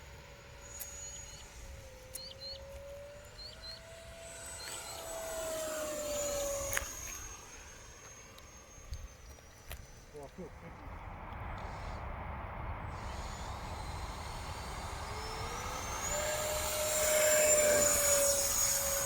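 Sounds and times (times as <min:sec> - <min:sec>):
model jet fan whine: 0:00.0 - 0:19.0
birds chirping: 0:00.1 - 0:19.0.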